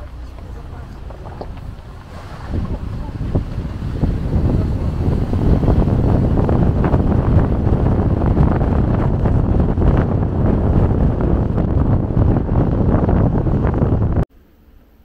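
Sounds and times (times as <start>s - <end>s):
wind buffeting microphone: 0.0s - 14.3s.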